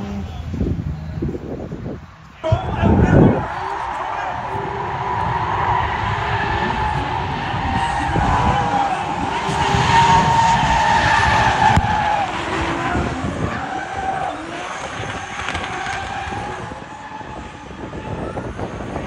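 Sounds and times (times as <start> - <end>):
car engines revving: 0.0 - 19.0
tyres skidding: 0.0 - 19.0.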